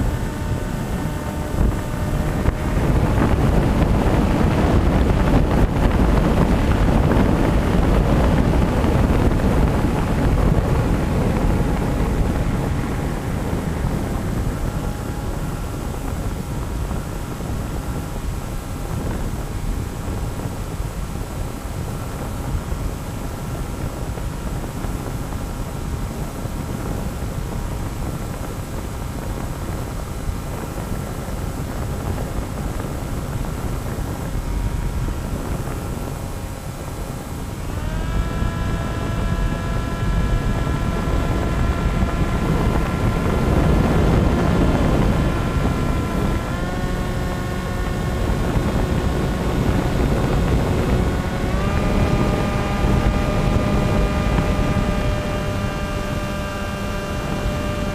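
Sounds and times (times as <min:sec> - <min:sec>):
model plane motor whine: 0:00.0 - 0:57.9
wind rush on microphone: 0:00.0 - 0:57.9.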